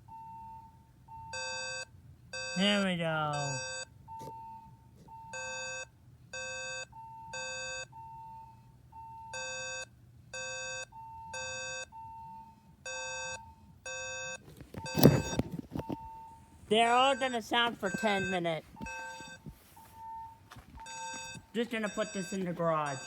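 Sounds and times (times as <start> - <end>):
fire alarm beeping harshly: 0.0 - 23.0
thin alarm tone beeping: 0.1 - 23.0.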